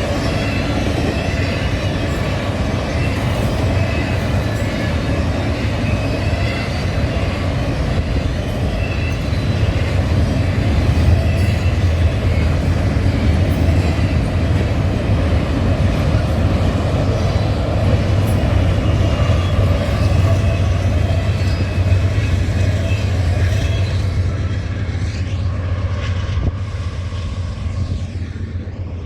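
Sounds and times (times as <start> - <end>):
high wheel squeal: 0.0 - 28.8
train wheels rumbling on rail: 0.0 - 29.0.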